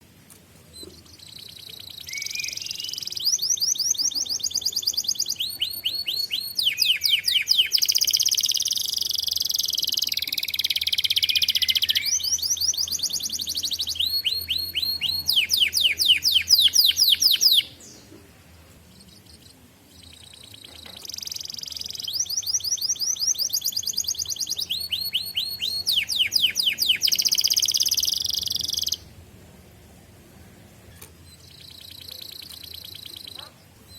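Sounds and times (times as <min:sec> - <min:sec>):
canary singing chirps and trills: 0:00.7 - 0:29.2, 0:30.4 - 0:33.9.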